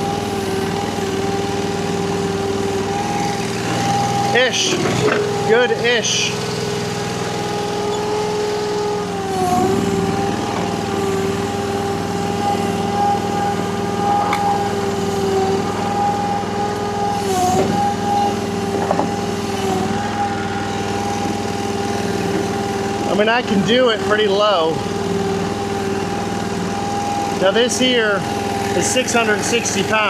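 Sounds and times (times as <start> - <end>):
engine running at high throttle: 0.0 - 30.0.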